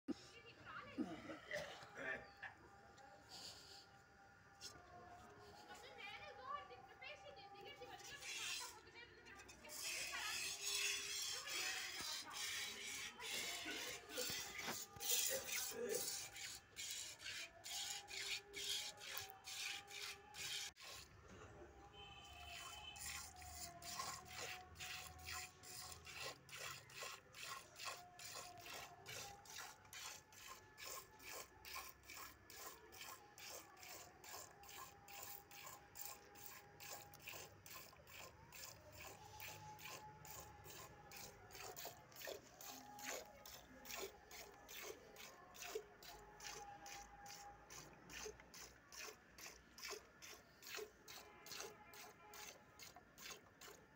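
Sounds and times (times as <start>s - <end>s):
milk squirting into steel bowl: 7.9s - 21.2s, 22.0s - 53.9s.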